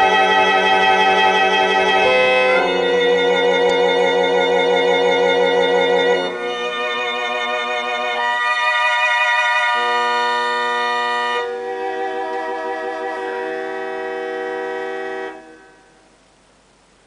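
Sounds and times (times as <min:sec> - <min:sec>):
slow sustained held chords: 0:00.0 - 0:10.7, 0:11.4 - 0:16.4.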